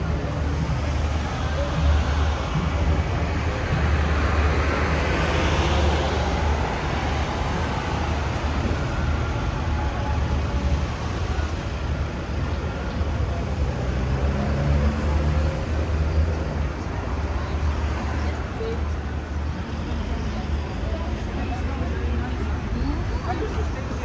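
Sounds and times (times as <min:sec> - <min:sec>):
cars passing on road: 0:00.0 - 0:24.0.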